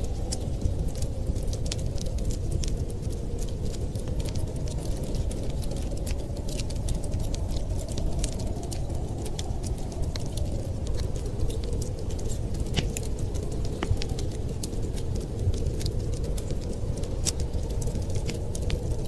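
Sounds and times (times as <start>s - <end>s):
low fire rumble: 0.0s - 19.0s
wood fire pops and snaps: 0.0s - 19.0s.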